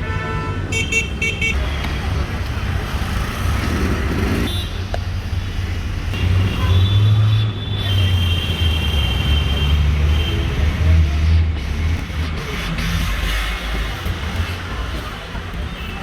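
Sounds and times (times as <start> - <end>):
passing vehicles rumbling: 0.0 - 16.0.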